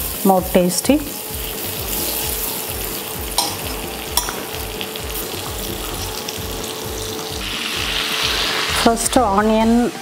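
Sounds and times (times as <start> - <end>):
butter sizzling in a pan: 0.0 - 10.0.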